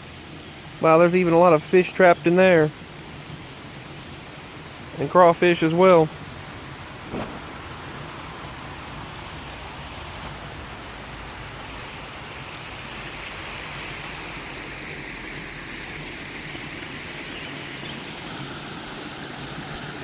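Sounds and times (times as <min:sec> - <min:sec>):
creek water over rocks: 0:00.0 - 0:20.0.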